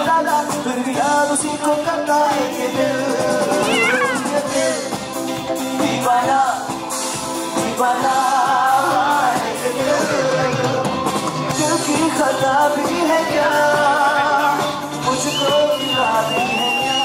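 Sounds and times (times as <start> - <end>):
man singing into a microphone: 0.0 - 5.0, 5.6 - 17.0.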